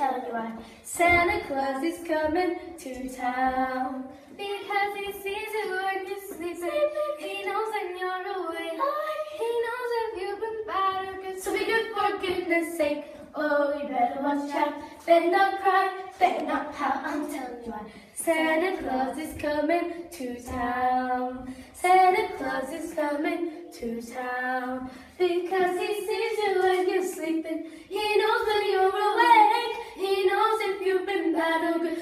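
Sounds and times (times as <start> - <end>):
girls singing unaccompanied: 0.0 - 32.0.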